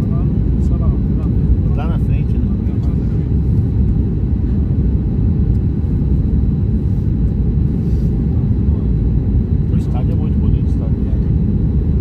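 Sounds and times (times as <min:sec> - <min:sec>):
airplane rumble during landing: 0:00.0 - 0:12.0.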